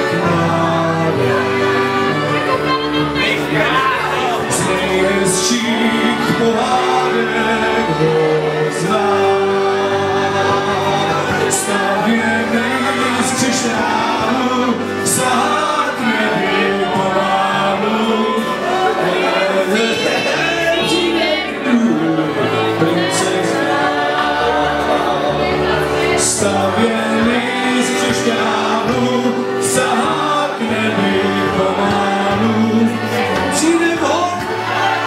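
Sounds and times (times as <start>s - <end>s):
vocal group singing in harmony: 0.0s - 35.0s.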